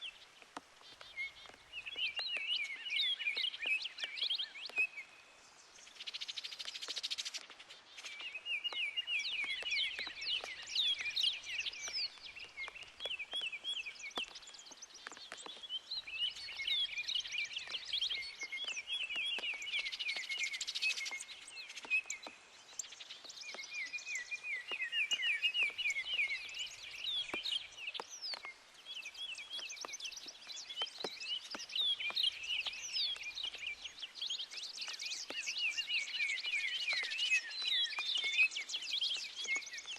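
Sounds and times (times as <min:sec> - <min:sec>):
birds chirping: 0:00.0 - 0:39.9
rain dripping and pattering: 0:00.0 - 0:39.9.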